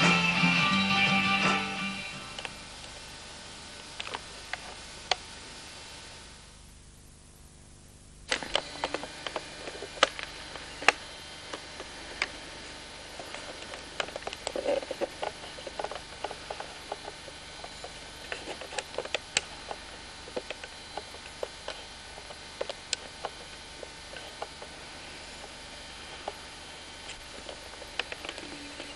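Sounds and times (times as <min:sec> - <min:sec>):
steady hiss: 0:00.0 - 0:28.9.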